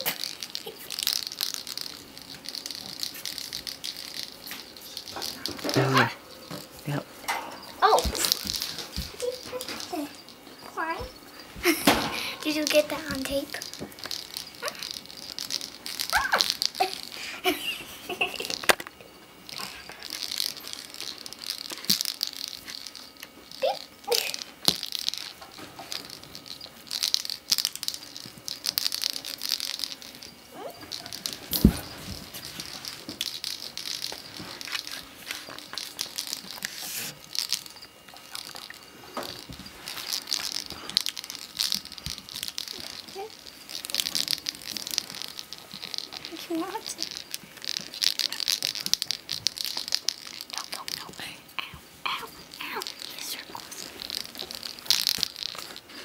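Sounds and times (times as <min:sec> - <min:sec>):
rats moving on carpet: 0:00.0 - 0:56.0
rustling and scratching: 0:00.0 - 0:56.0.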